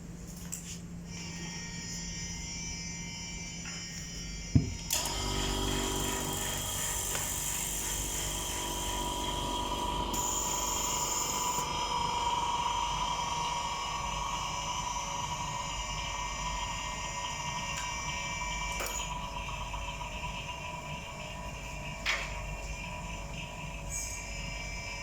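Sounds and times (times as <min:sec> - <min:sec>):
small motor humming whine: 0:01.1 - 0:25.0.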